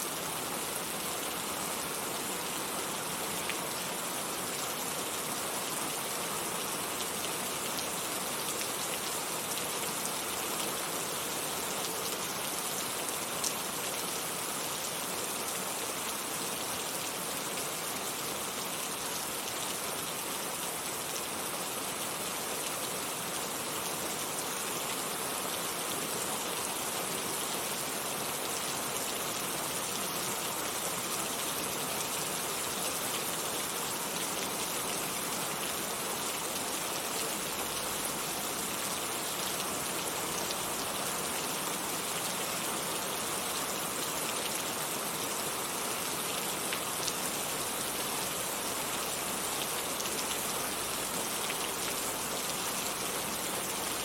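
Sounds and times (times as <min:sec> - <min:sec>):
heavy rain on a surface: 0:00.0 - 0:54.0.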